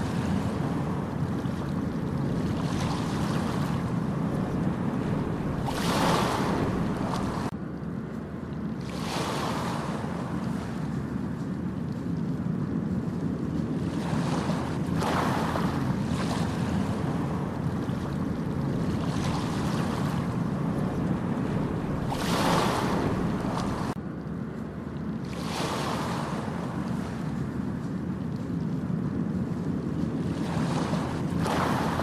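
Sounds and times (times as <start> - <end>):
ocean waves breaking: 0.0 - 32.0
wind buffeting microphone: 0.0 - 32.0.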